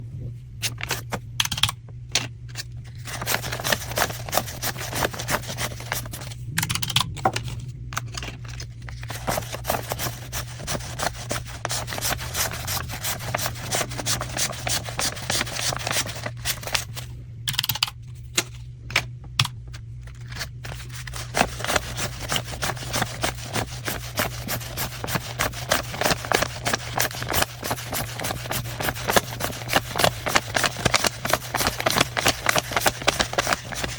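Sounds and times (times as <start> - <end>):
banknotes being counted by hand: 2.9 - 7.4, 8.6 - 18.5, 19.4 - 33.9.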